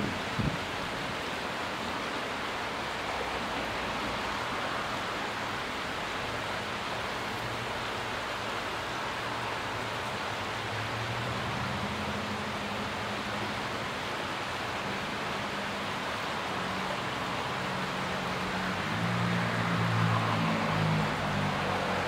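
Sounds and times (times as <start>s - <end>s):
creek water rushing over rocks: 0.0s - 22.0s.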